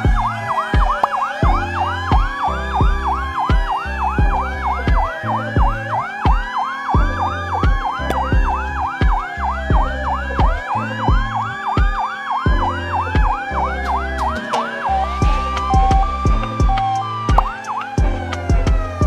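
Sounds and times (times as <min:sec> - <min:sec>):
alternating siren tones: 0:00.0 - 0:19.0
music with steady beat: 0:00.0 - 0:19.0
siren wail: 0:00.0 - 0:19.0
siren yelp: 0:00.0 - 0:19.0.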